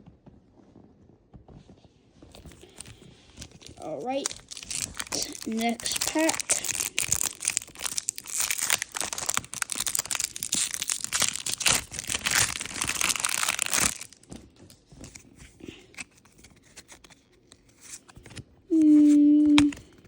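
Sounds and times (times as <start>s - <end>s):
foil wrapper crinkling and tearing: 2.3s - 20.0s.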